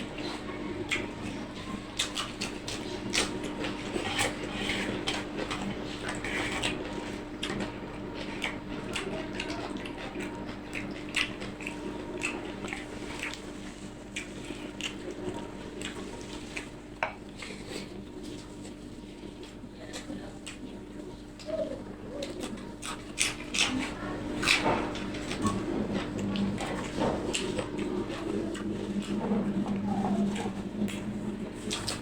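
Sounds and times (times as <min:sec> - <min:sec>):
person chewing and eating: 0:00.0 - 0:32.0.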